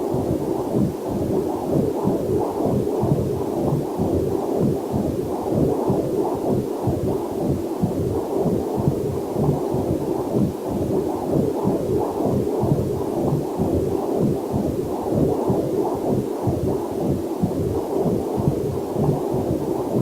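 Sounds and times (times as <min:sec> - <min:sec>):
whooshing doppler heartbeat: 0:00.0 - 0:20.0.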